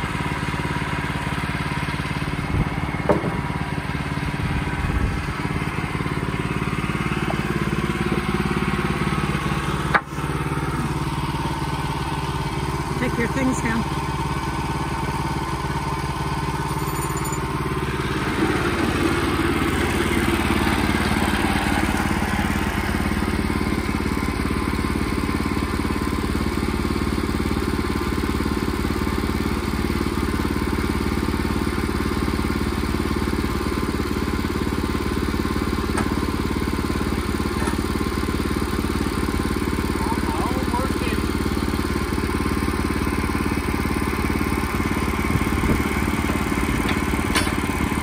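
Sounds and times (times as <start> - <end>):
small gasoline engine running: 0.0 - 48.0.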